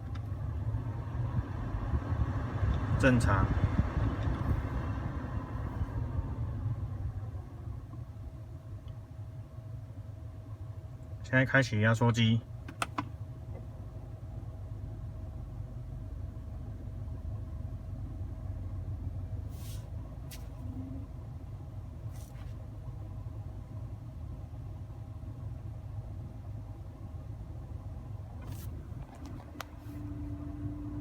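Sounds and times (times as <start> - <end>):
car engine idling rumble: 0.0 - 31.0
faint steady hum: 0.0 - 31.0.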